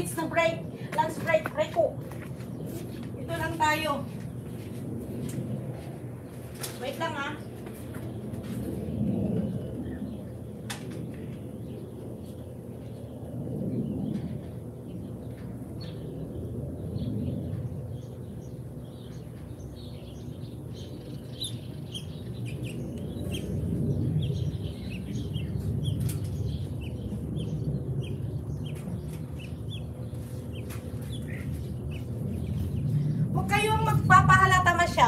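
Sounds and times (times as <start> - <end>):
small birds chirping: 0.0 - 5.0, 6.5 - 35.0
steady low rumble: 0.0 - 35.0.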